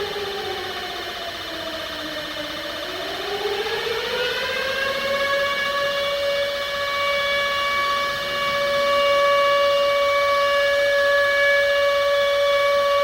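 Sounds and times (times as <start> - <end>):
warning siren wailing: 0.0 - 13.0.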